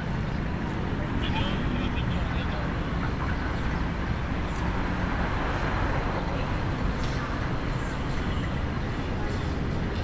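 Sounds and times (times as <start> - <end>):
low traffic rumble: 0.0 - 10.0.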